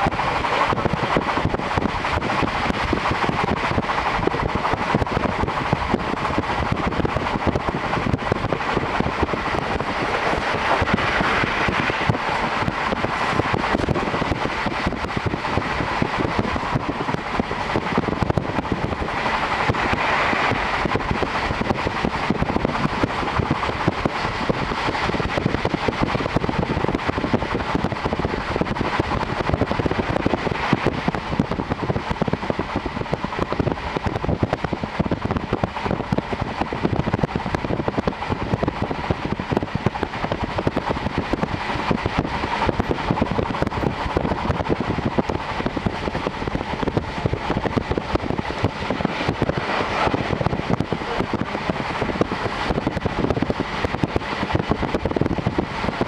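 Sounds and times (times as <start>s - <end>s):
rushing air: 0.0s - 56.0s
train wheels on rails: 0.0s - 56.0s.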